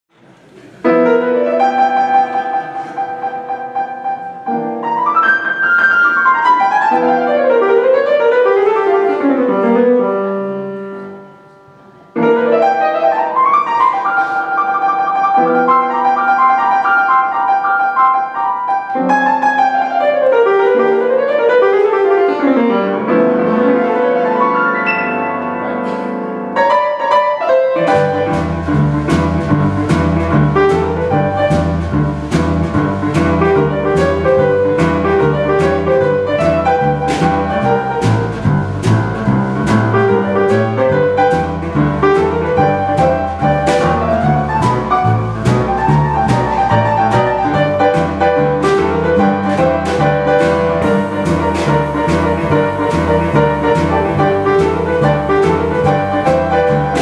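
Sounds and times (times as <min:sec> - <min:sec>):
boogie-woogie piano: 0:00.8 - 0:57.0.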